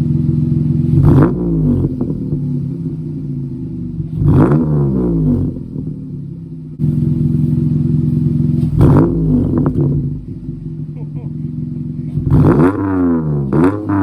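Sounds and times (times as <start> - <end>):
car engine idling: 0.0 - 14.0
car engine revving: 0.0 - 14.0.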